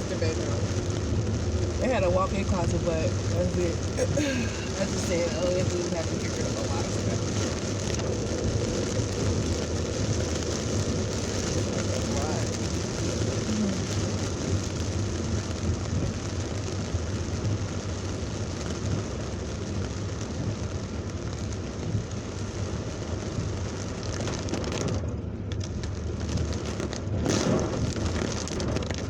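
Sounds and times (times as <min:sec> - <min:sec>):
car rumbling on road: 0:00.0 - 0:29.0
heavy rain hissing on a car: 0:00.0 - 0:29.0.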